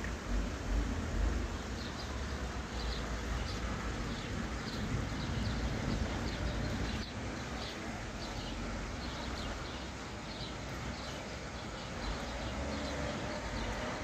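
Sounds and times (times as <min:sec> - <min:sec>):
rain: 0:00.0 - 0:14.0
stream water rushing: 0:00.0 - 0:14.0.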